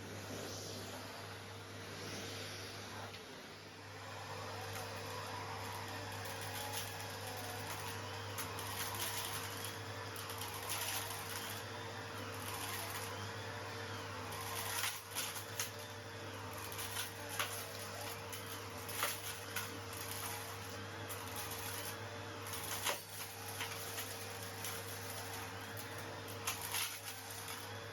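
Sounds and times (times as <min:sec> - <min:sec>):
vacuum cleaner running: 0:00.0 - 0:27.9
stones rattling up a hose: 0:04.6 - 0:27.9.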